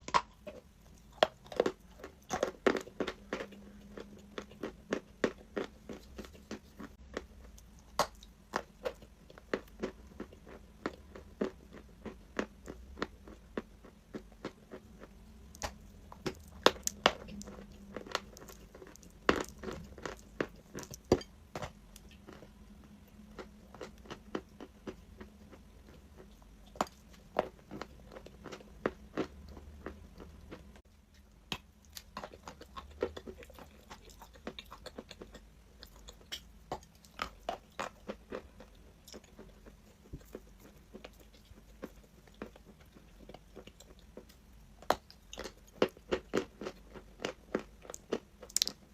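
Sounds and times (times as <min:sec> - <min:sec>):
chalk crunching being chewed: 0:00.1 - 0:48.8.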